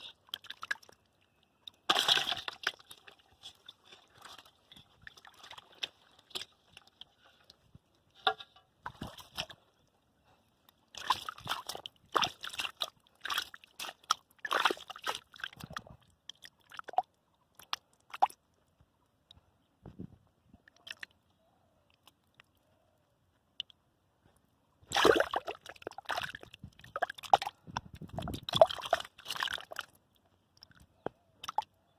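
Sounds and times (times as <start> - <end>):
muddy water sloshing and splashing: 0.0 - 18.5, 20.7 - 21.1, 24.8 - 31.8.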